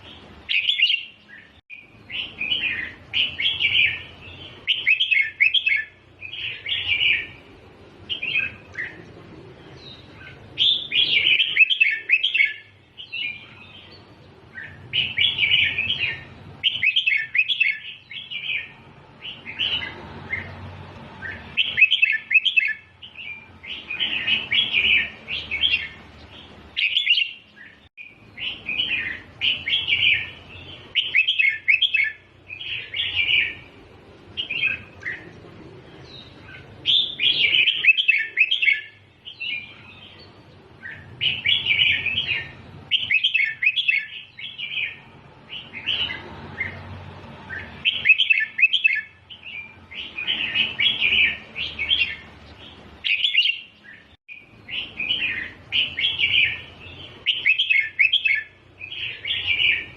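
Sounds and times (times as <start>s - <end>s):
bulbul singing warbled phrases: 0.0s - 59.9s.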